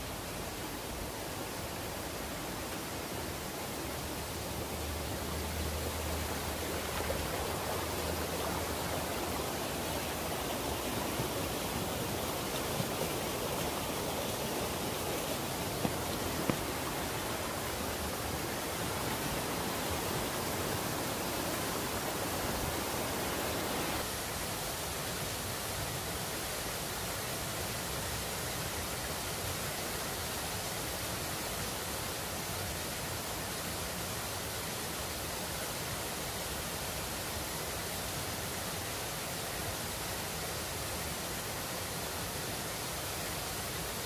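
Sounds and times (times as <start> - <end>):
waterfall rushing over rock: 0.0 - 44.0.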